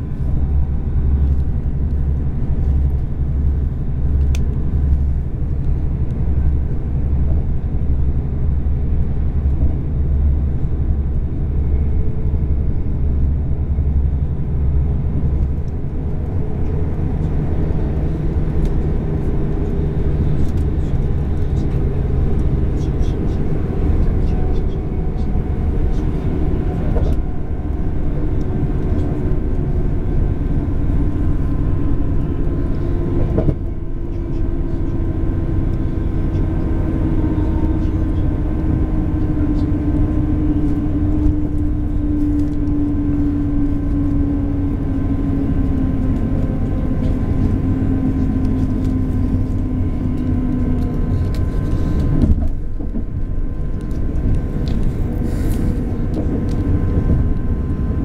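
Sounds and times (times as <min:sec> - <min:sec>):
droning train noise: 0:00.0 - 0:58.0
train wheels rumbling on rails: 0:00.0 - 0:58.0.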